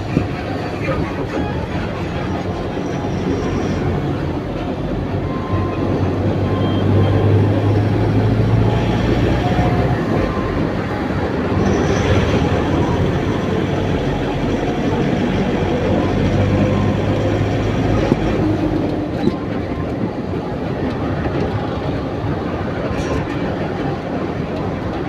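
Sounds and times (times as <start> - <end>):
truck engine and rolling noise: 0.0 - 25.0.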